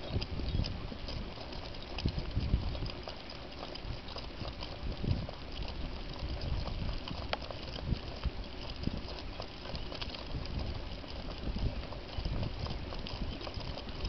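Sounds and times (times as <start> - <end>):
cart rolling on asphalt: 0.0 - 14.0
patter of dog paws: 0.0 - 14.0.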